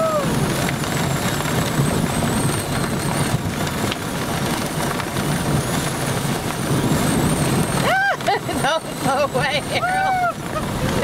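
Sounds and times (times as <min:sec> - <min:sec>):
strong wind buffeting: 0:00.0 - 0:11.0.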